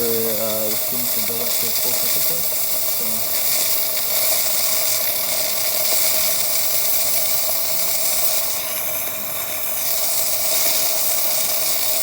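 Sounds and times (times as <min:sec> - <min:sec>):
espresso machine pump hum: 0:00.0 - 0:12.0
steam hissing from wand: 0:00.0 - 0:12.0.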